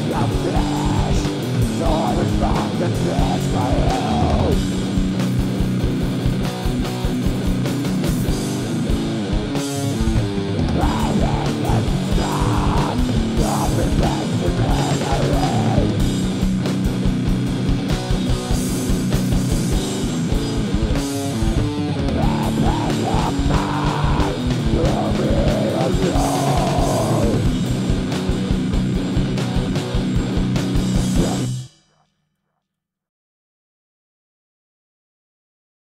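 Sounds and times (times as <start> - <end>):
electric guitars: 0.0 - 31.7
heavy rock music: 0.0 - 31.7
steady drum beat: 0.0 - 31.7.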